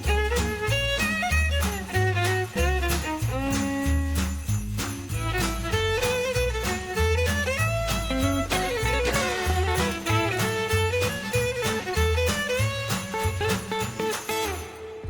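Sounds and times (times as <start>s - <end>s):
upbeat instrumental tune with strings: 0.0s - 15.0s.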